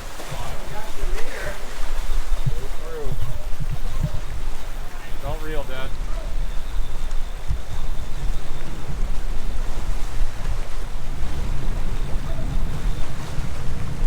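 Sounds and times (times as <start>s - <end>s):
water noise: 0.0s - 14.0s
wind buffeting microphone: 0.0s - 14.0s.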